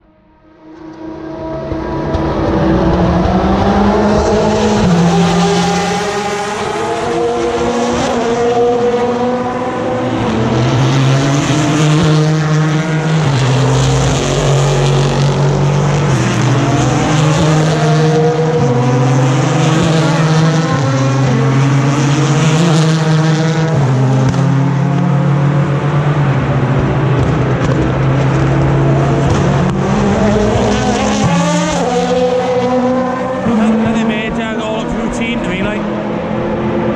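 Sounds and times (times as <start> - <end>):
race car engines shifting gears: 0.6 - 36.9.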